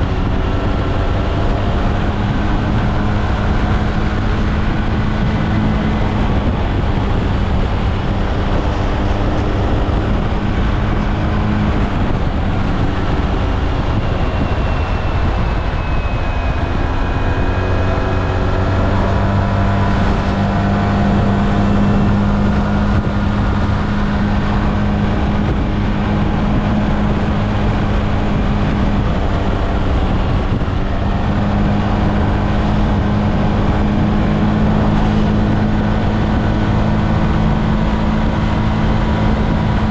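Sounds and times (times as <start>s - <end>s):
road rush: 0.0s - 39.9s
scooter engine running: 0.0s - 39.9s
wind: 0.0s - 39.9s.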